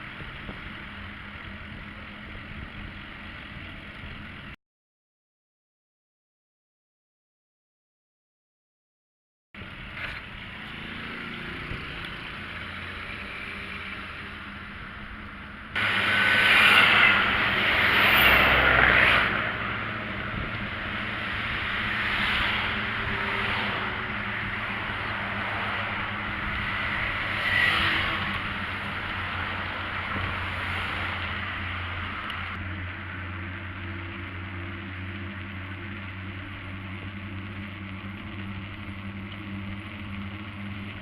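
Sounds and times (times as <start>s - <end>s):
steady road noise: 0.0s - 4.6s, 9.6s - 41.0s
vehicles passing: 0.0s - 4.6s, 9.6s - 41.0s.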